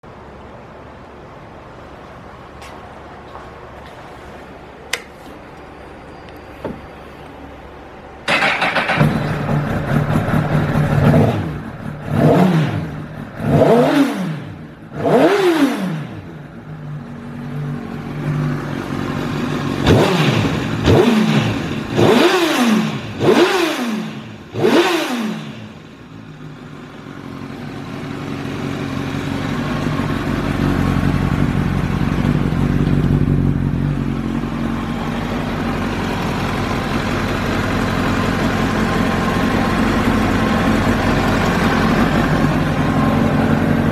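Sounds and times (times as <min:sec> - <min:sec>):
motorcycle engine revving and idling: 0:08.3 - 0:43.9.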